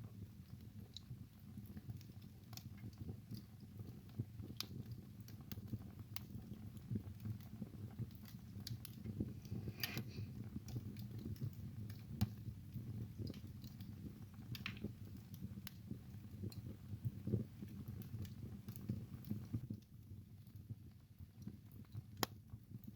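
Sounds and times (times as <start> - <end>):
wood fire crackling and popping: 0.0 - 22.9.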